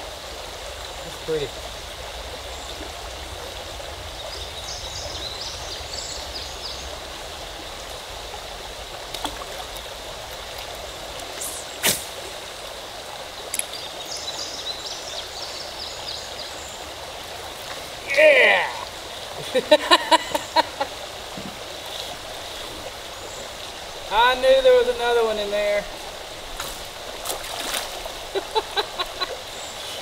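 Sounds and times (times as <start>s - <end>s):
river water running: 0.0s - 30.0s.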